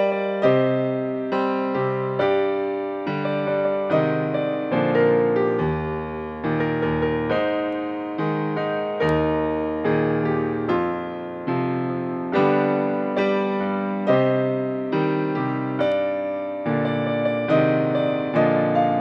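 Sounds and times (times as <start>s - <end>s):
solo piano chords: 0.0s - 19.0s.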